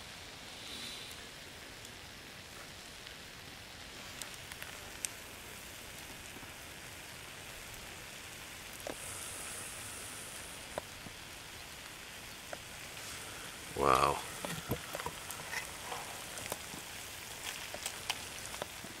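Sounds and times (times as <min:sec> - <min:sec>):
food sizzling in a pan: 0:00.0 - 0:19.0
sharp pops and crackles: 0:00.6 - 0:19.0.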